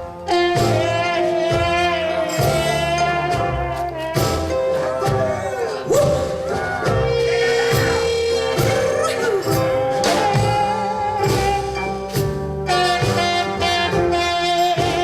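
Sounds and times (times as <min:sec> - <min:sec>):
jazzy band music: 0:00.0 - 0:15.0.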